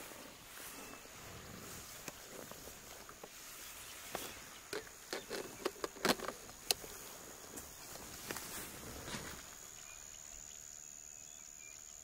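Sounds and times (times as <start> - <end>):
high insect drone: 0.1 - 12.0.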